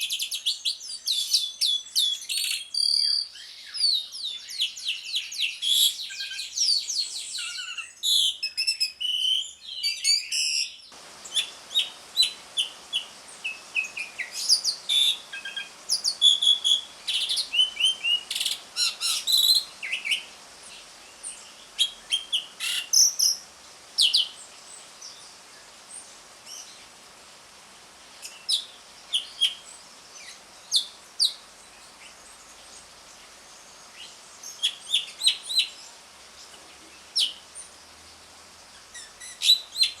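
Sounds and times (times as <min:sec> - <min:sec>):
starling chirps and whistles: 0:00.0 - 0:26.8, 0:28.2 - 0:31.4, 0:34.0 - 0:35.8, 0:38.9 - 0:40.0
faint steady hiss: 0:00.0 - 0:40.0.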